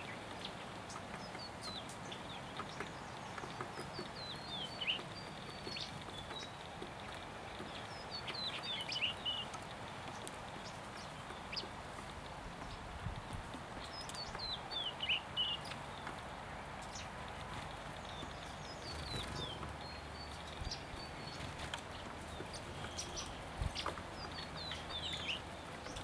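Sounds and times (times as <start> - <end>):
bird chirping: 0.0 - 26.0
steady outdoor hiss: 0.0 - 26.0.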